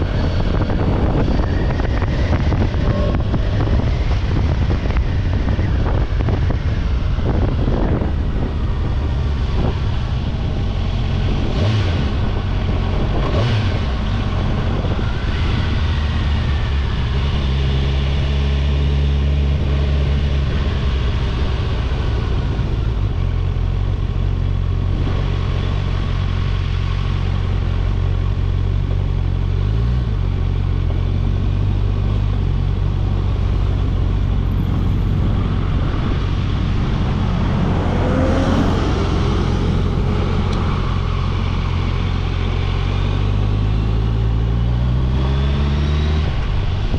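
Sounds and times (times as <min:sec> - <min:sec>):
motorcycle engine drone: 0:00.0 - 0:46.9
wind and road noise: 0:00.0 - 0:46.9.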